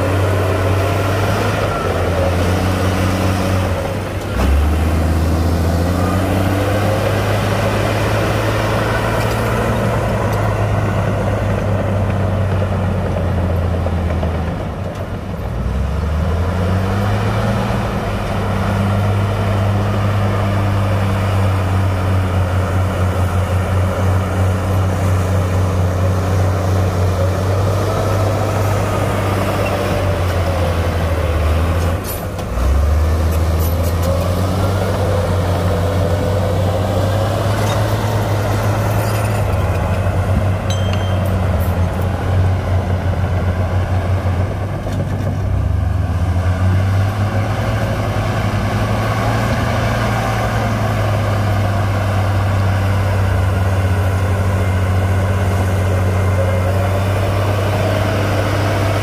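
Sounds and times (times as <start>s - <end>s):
engine revving: 0.0s - 12.1s, 15.6s - 40.7s, 41.6s - 59.0s
heavy diesel engines running: 0.0s - 59.0s.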